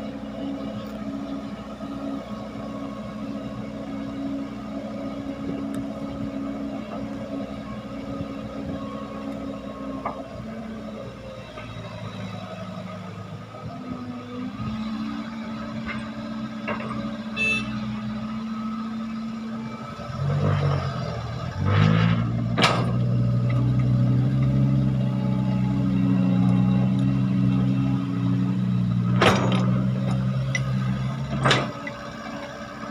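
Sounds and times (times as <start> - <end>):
heavy diesel engines working: 0.0 - 32.9
loud engine running: 0.0 - 32.9.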